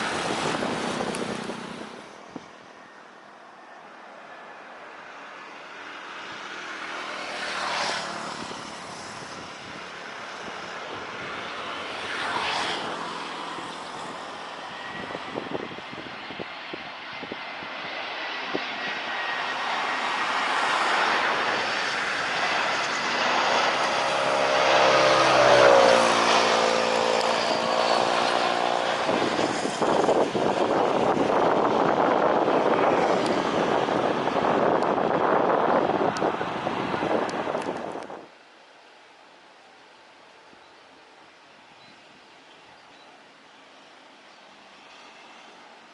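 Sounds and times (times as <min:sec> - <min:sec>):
high-pitched engine whine: 0:00.0 - 0:38.3
jet engines roaring: 0:00.0 - 0:42.6.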